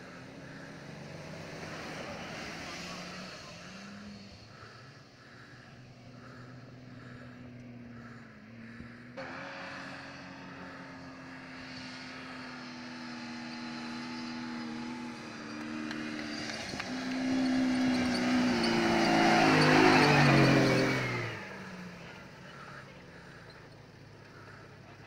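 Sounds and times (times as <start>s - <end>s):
off-road engine running under load: 0.0s - 25.0s.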